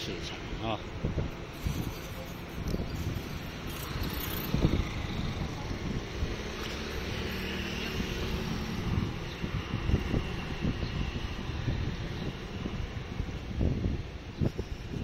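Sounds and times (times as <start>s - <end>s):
wind buffeting microphone: 0.4s - 15.0s
scooters passing: 1.4s - 15.0s.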